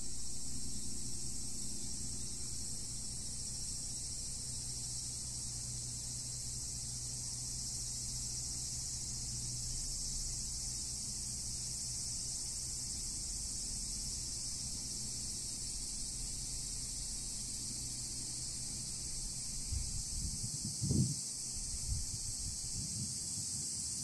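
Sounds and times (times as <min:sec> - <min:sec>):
low steady hum: 0:00.0 - 0:20.6, 0:21.4 - 0:22.8
insects buzzing: 0:00.0 - 0:24.0.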